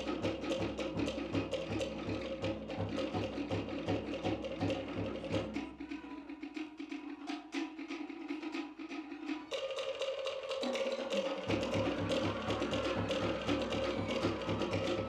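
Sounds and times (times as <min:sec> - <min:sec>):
wooden slit drums beating: 0:00.0 - 0:15.0.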